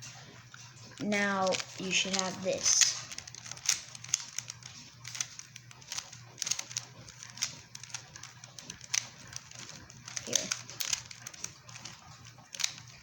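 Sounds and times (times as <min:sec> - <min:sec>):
puzzle cube clicking: 0:01.0 - 0:13.0.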